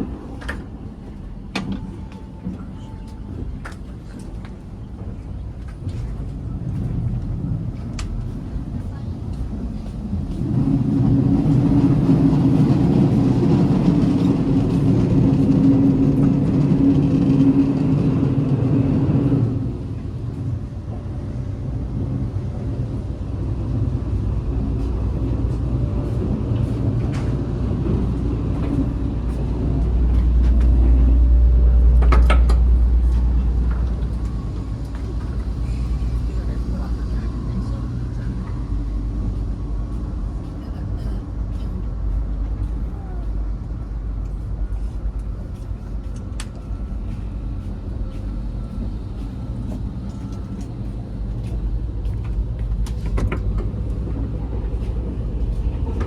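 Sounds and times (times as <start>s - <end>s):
high-speed train rumbling: 0.0s - 56.0s.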